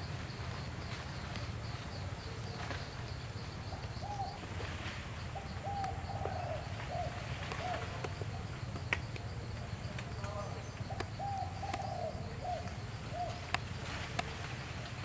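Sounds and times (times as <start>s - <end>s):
coo calls: 2.2s - 15.0s.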